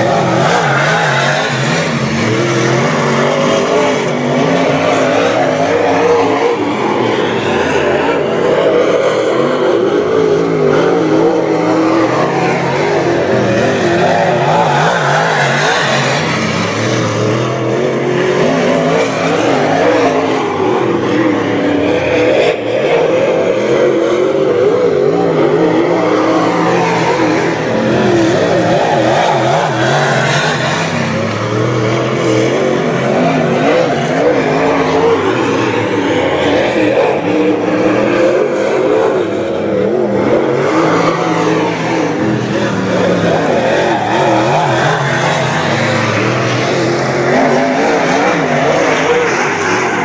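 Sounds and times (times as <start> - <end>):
race car engines revving: 0.0 - 50.0.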